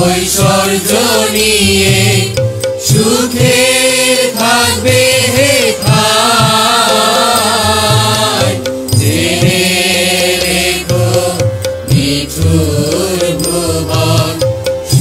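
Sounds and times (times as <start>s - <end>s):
person singing long wavering notes: 0.0s - 15.0s
sustained accompaniment: 0.0s - 15.0s.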